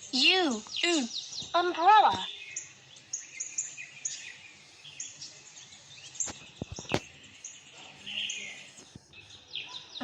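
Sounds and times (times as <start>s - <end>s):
background hiss: 0.0s - 9.6s
birds chirping: 0.0s - 10.0s.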